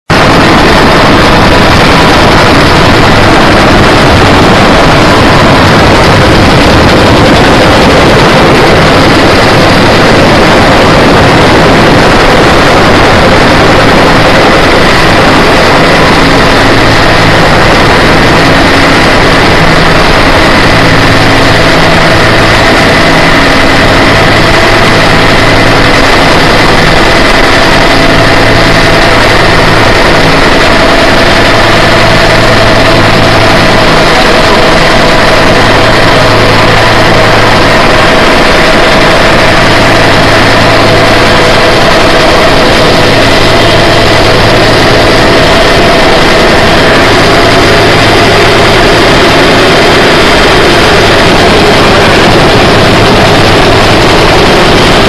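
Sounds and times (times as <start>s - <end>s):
helicopter rotor and turbine noise: 0.0s - 55.0s
faint high whine: 0.1s - 55.0s.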